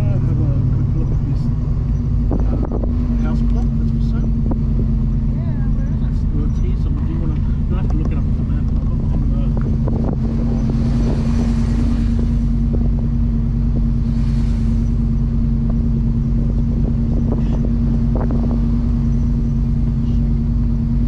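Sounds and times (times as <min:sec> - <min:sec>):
car engine drone: 0:00.0 - 0:21.0.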